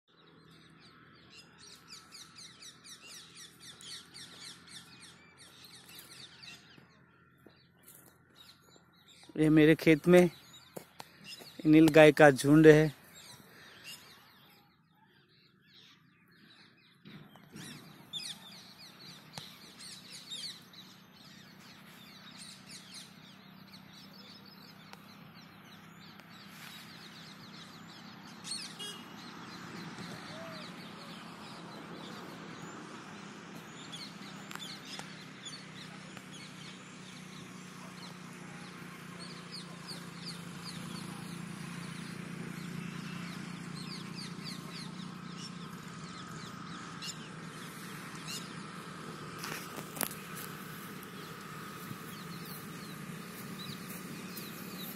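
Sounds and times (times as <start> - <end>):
birds chirping: 0.1 - 54.9.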